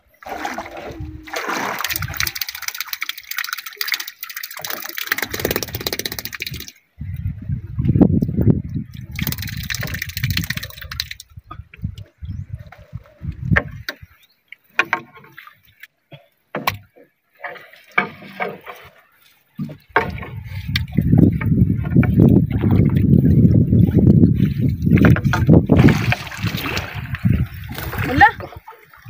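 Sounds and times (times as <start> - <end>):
water splashing around a boat: 0.0 - 7.0, 8.5 - 29.0.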